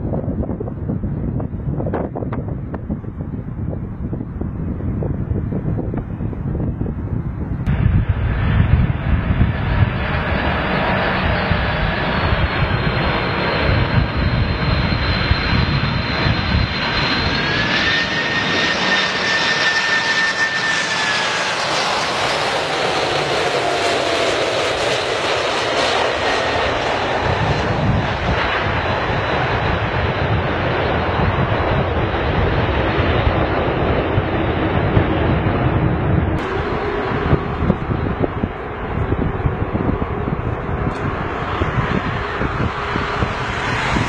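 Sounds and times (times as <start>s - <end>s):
jet engines whining and rumbling: 0.0s - 44.0s.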